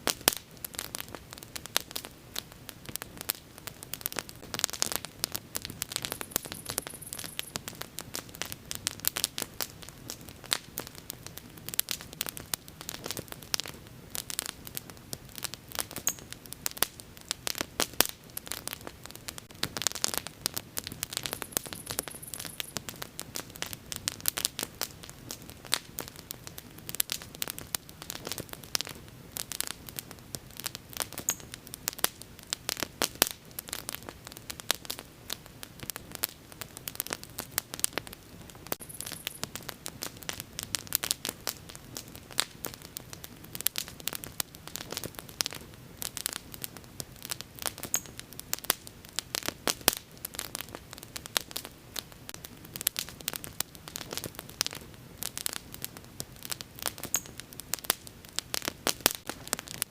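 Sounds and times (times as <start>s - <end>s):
wood bonfire crackling: 0.0s - 59.9s.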